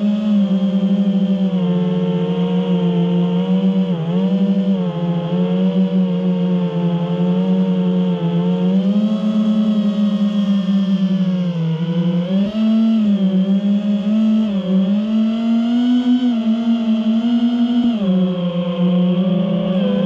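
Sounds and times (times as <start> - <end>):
drone propellers whining: 0.2 - 20.0.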